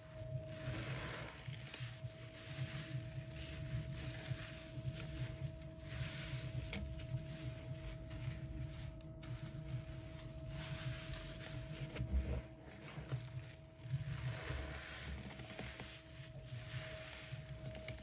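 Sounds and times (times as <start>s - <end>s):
faint steady hum: 0.0s - 18.0s
sponge squishing and sloshing: 0.1s - 18.0s.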